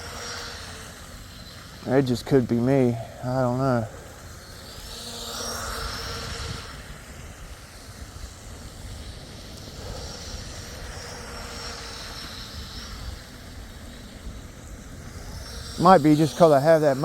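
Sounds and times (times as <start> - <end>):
electric boat motor whining: 0.0 - 17.0.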